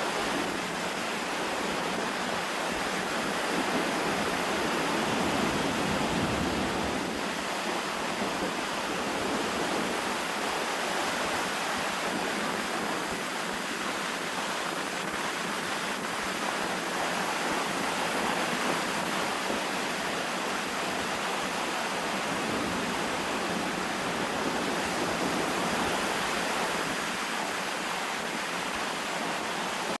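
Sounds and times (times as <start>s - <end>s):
waves washing on shore: 0.0s - 30.0s
strong wind blowing: 0.1s - 29.9s.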